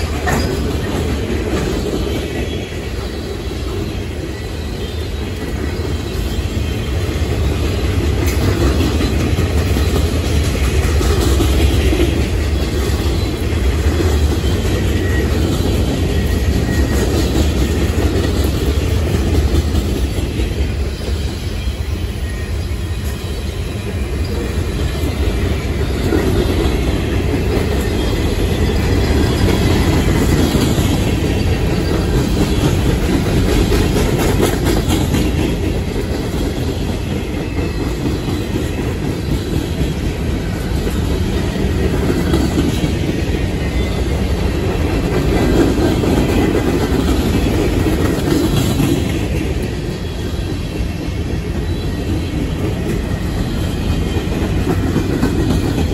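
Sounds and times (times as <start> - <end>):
wheels clacking over rail joints: 0.0 - 21.3, 24.2 - 55.9
freight train wheels rumbling: 0.0 - 55.9.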